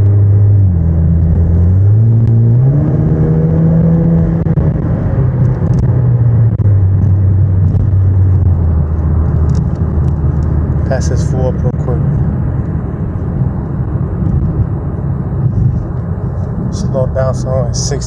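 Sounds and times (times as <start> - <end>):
car engine drone from inside cabin: 0.0 - 18.0.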